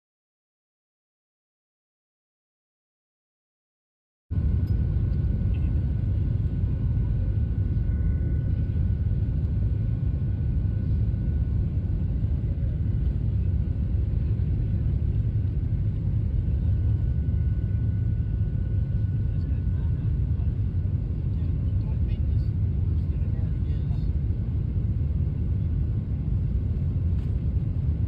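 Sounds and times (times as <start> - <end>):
jet engine low rumble: 4.3 - 28.0
faint steady whine: 4.4 - 28.0.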